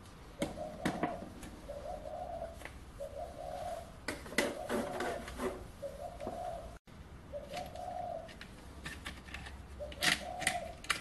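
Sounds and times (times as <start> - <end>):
doves cooing: 0.4 - 8.4, 9.7 - 11.0.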